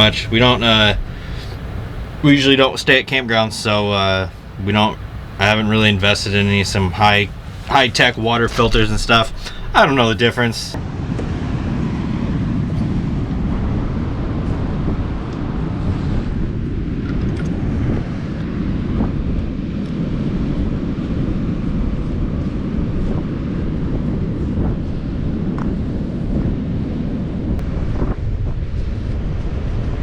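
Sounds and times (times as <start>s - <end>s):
strong wind on microphone: 0.0s - 2.4s, 3.9s - 30.0s.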